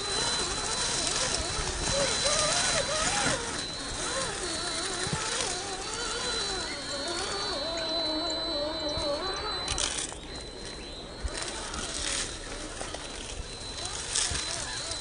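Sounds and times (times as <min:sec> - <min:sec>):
electric motor whining under load: 0:00.0 - 0:15.0
thin high whine: 0:00.0 - 0:15.0.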